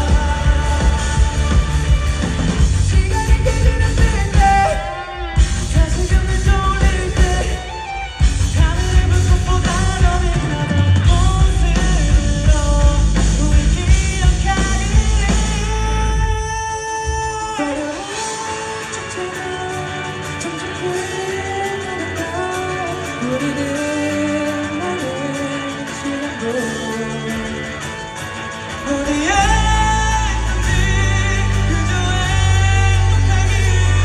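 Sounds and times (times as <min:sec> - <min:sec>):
person singing: 0:00.0 - 0:34.0
rock band playing: 0:00.0 - 0:34.0.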